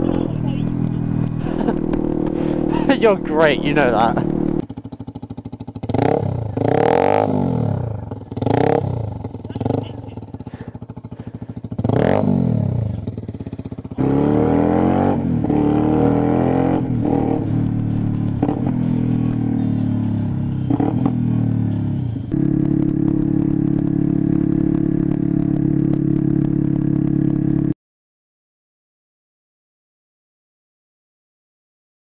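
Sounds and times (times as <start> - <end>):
motorcycle engine idling and revving: 0.0 - 27.8.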